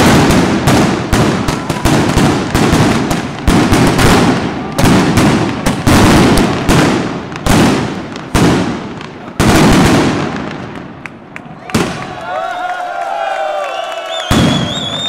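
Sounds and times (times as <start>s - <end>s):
firecrackers exploding: 0.0s - 12.3s, 14.1s - 15.0s.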